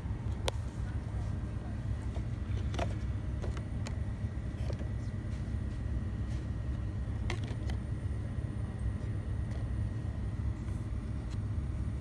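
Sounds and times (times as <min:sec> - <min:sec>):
shop background hum: 0:00.0 - 0:12.0.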